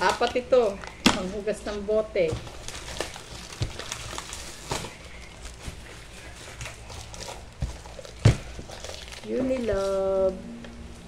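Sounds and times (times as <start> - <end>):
plastic pouches rustling: 0.0 - 10.6.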